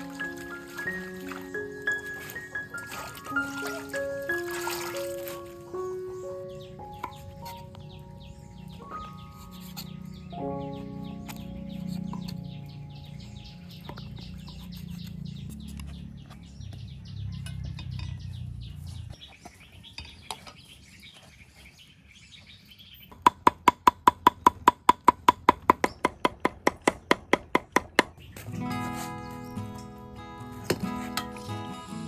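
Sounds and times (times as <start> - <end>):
birds chirping: 0.0 - 23.8, 25.4 - 32.0.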